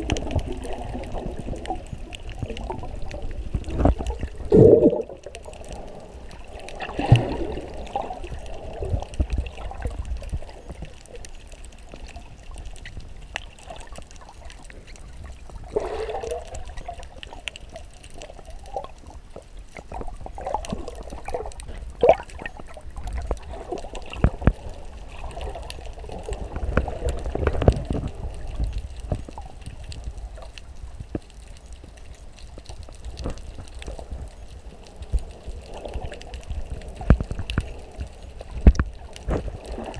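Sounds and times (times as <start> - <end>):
muffled water sloshing underwater: 0.0 - 39.9.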